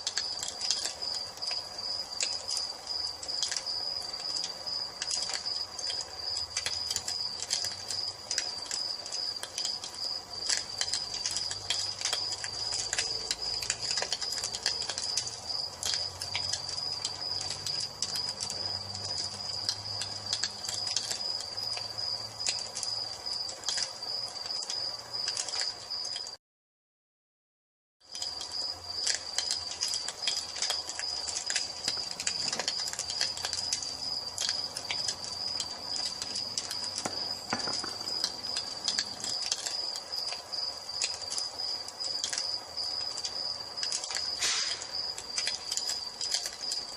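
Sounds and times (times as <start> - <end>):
crickets trilling: 0.0 - 26.4, 28.1 - 46.9
wood fire crackling and popping: 0.0 - 26.4, 28.0 - 46.9.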